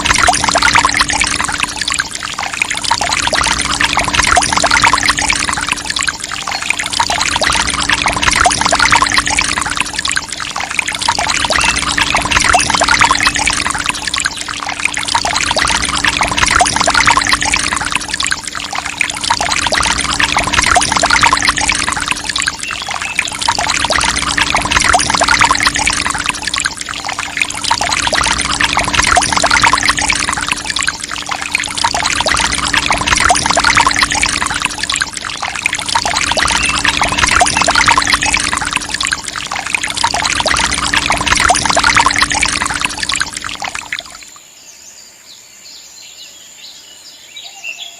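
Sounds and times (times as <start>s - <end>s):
pump hum: 0.0s - 44.3s
water splashing and pouring: 0.0s - 44.4s.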